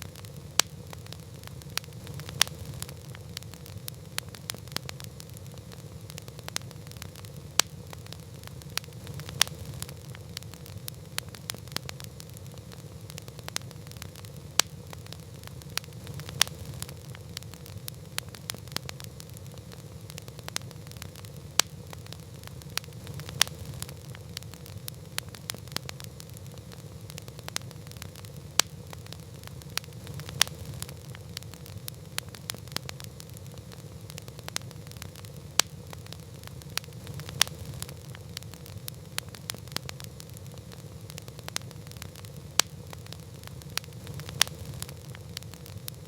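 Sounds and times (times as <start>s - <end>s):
campfire crackling: 0.0s - 46.0s
fire popping and snapping: 0.0s - 46.0s.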